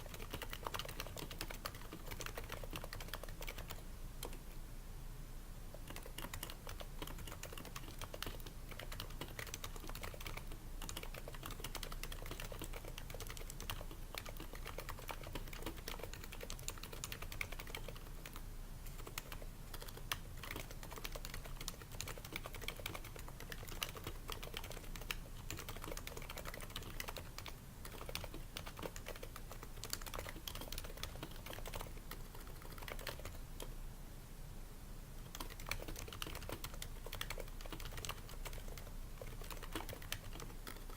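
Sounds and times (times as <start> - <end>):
muted keyboard typing: 0.0 - 4.4, 5.7 - 33.7, 35.2 - 40.9.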